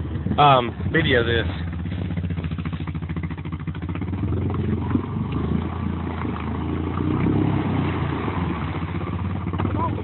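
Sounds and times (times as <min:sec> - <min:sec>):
atv engine running: 0:00.0 - 0:10.0
wheels churning and splashing water: 0:00.0 - 0:10.0.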